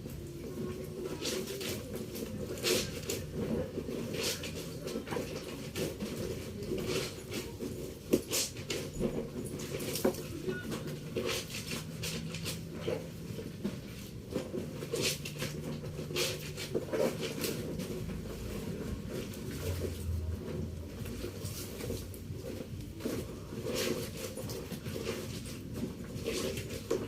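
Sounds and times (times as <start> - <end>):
household objects being handled: 0.0 - 27.0.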